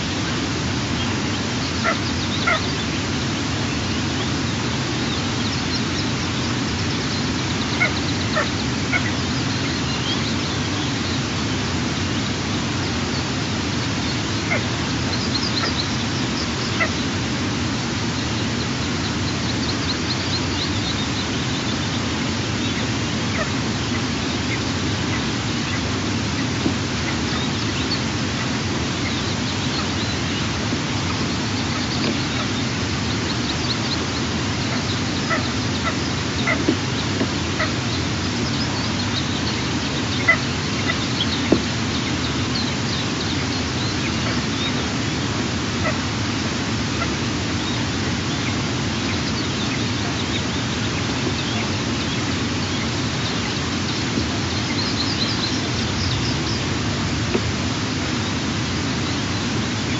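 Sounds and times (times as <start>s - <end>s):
steady rushing noise: 0.0s - 59.9s.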